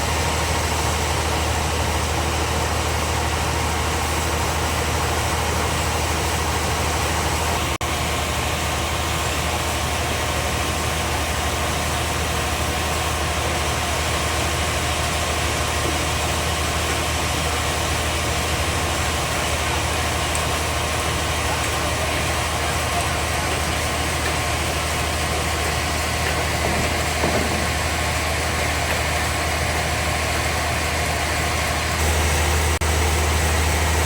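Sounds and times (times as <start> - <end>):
band sawmill machinery humming: 0.0 - 34.0.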